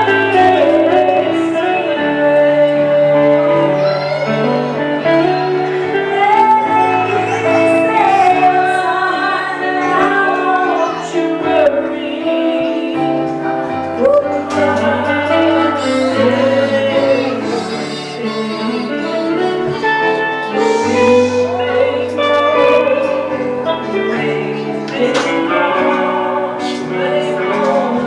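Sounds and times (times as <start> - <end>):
instrumental accompaniment: 0.0 - 28.0
woman singing gospel: 4.7 - 28.0.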